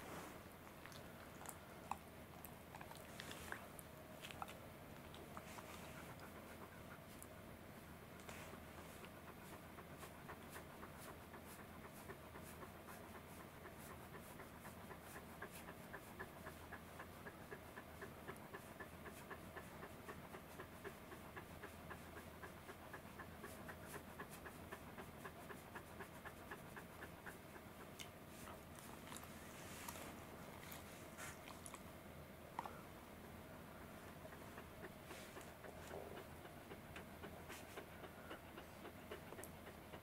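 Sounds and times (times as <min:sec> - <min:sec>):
dog panting: 0:00.0 - 0:40.0.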